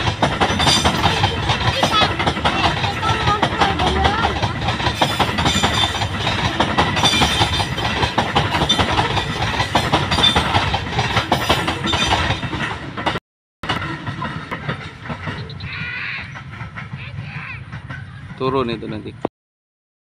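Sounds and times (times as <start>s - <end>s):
train wheels clattering over rail joints: 0.0s - 19.2s.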